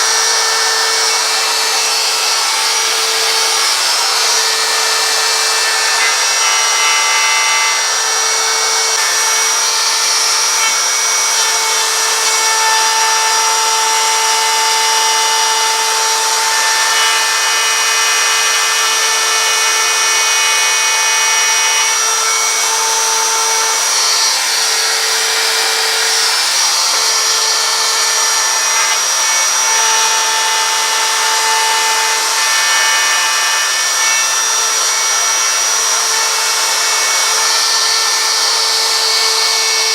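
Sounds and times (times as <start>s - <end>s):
router cutting wood: 0.0s - 39.9s.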